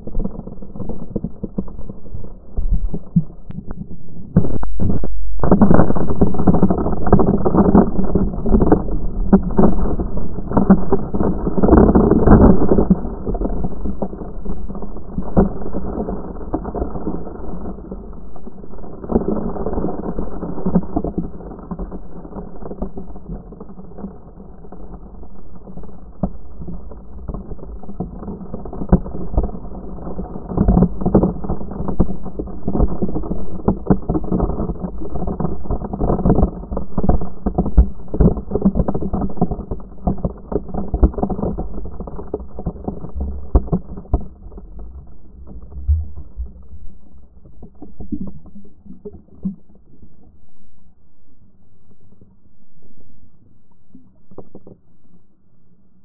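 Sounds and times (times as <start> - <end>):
crackling pops: 0.0 - 25.2, 26.1 - 49.7
muffled waves churning and bubbling: 0.0 - 56.0.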